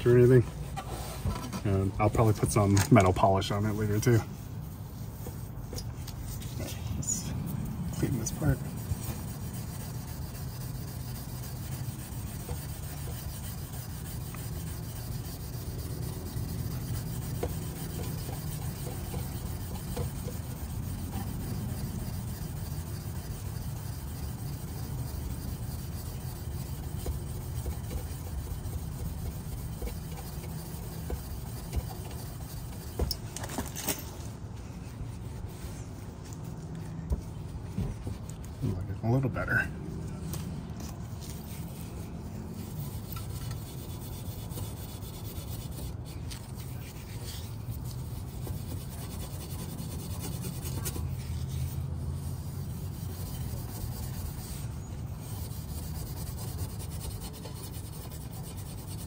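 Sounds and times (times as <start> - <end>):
steel wool scrubbing metal: 0.0 - 33.3, 40.8 - 59.0.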